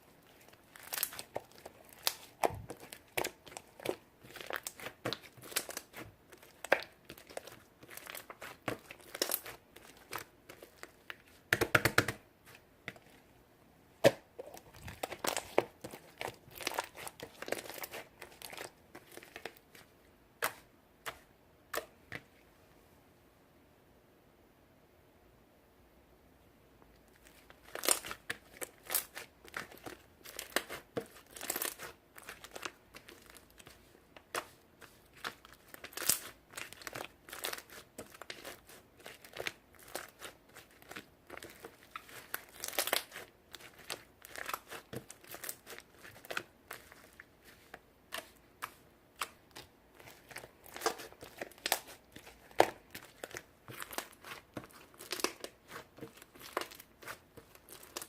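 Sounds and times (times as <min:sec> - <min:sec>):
slime squishing with sticky pops: 0:00.2 - 0:13.2, 0:14.0 - 0:22.3, 0:27.1 - 0:58.0.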